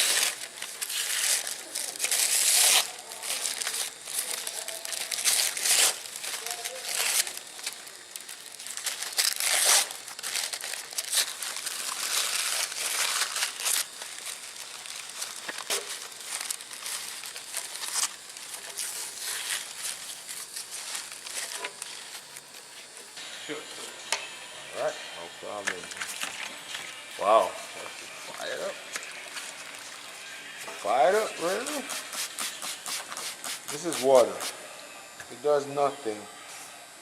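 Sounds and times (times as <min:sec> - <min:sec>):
paper crinkling and tearing: 0:00.0 - 0:23.0, 0:25.6 - 0:34.6.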